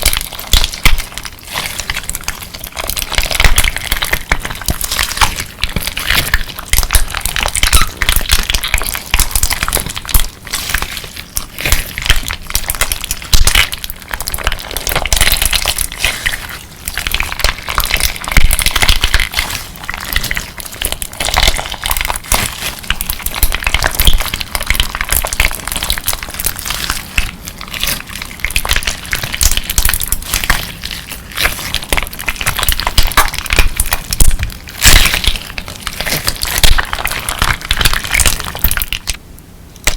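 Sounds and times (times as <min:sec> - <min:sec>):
crunchy slime squeezed by hand: 0:00.0 - 0:39.9.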